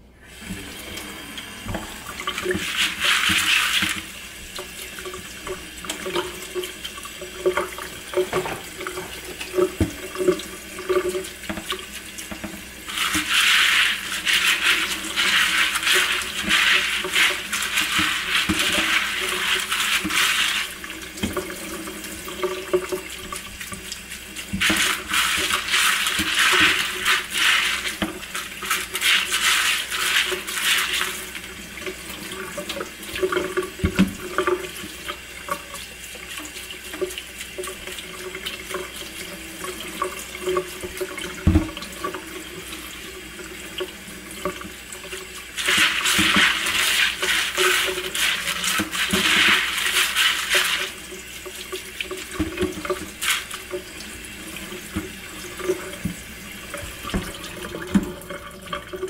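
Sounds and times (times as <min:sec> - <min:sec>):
faucet water running into colander: 0:00.0 - 0:59.0.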